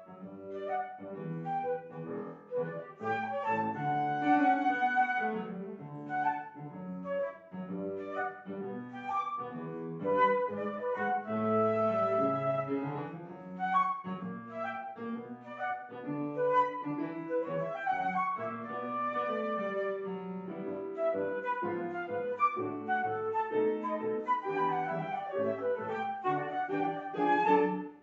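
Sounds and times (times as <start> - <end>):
flute melody: 0.0 - 28.0
piano accompaniment: 0.0 - 28.0.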